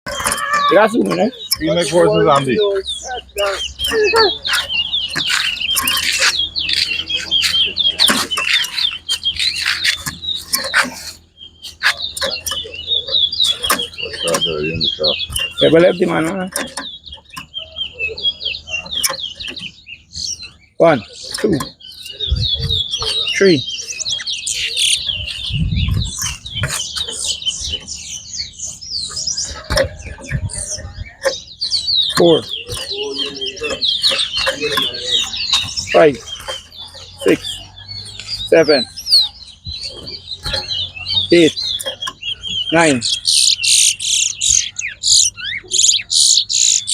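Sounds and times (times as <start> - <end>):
finch singing warbling high notes: 0.1 - 46.9.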